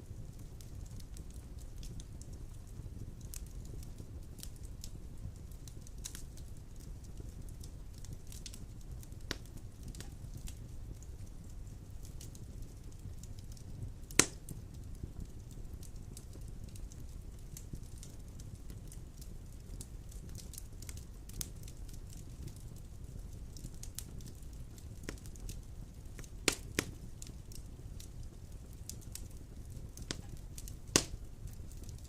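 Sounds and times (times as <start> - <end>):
fire crackles: 0.0 - 32.0
flames rumbling: 0.0 - 32.0
loud fire pops: 0.1 - 32.0.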